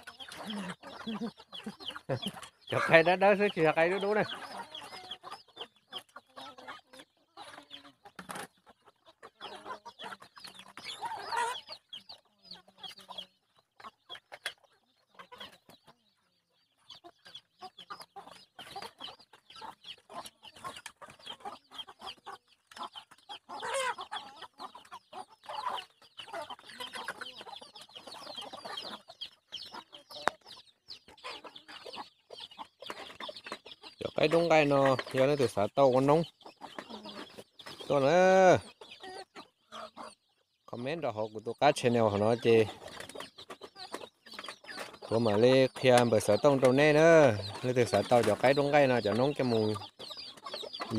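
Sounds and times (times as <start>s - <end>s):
chickens clucking softly: 0.0s - 50.9s.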